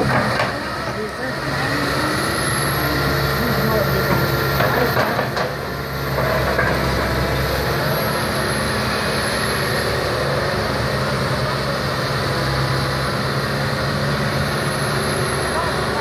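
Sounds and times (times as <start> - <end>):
excavator diesel engines running: 0.0 - 16.0.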